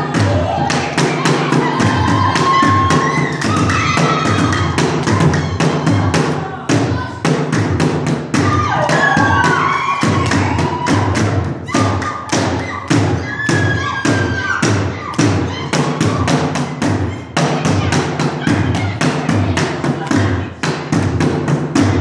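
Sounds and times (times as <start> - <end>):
drums beating fast rhythm: 0.0 - 22.0.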